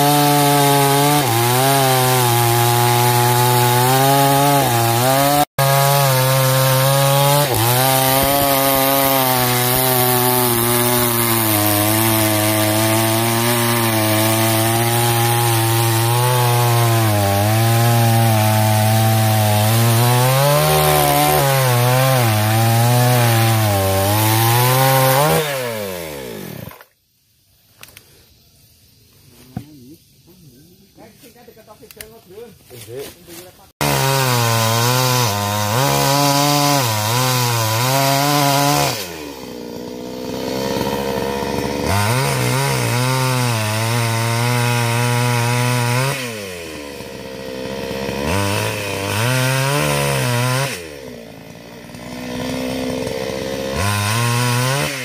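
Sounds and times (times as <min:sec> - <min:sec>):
chainsaw cutting log: 0:00.0 - 0:26.9, 0:32.0 - 0:55.0.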